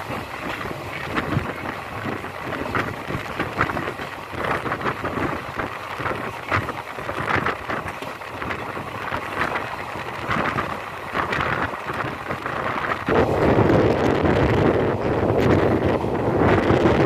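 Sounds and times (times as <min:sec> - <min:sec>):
train rushing: 0:00.0 - 0:17.0
wind buffeting microphone: 0:00.0 - 0:17.0.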